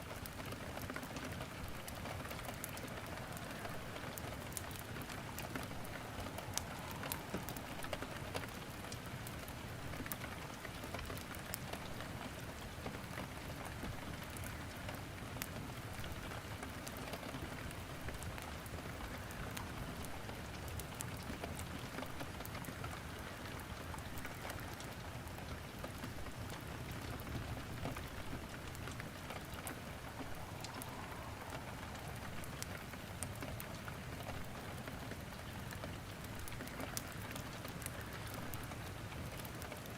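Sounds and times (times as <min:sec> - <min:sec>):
rain falling: 0:00.0 - 0:39.9
wood crackling in fireplace: 0:00.0 - 0:39.9.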